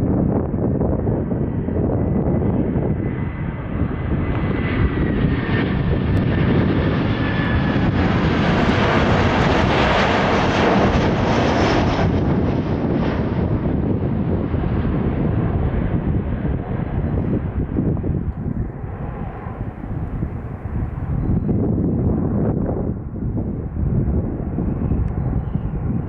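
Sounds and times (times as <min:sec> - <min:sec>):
jet engine whine: 0:00.0 - 0:26.0
jet engines rumbling: 0:00.0 - 0:26.0.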